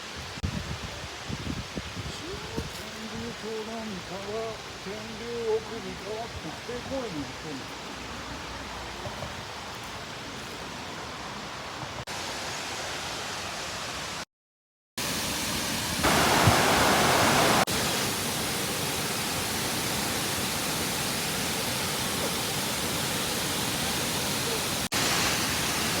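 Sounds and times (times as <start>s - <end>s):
waterfall rushing and splashing: 0.0s - 14.2s, 15.0s - 26.0s.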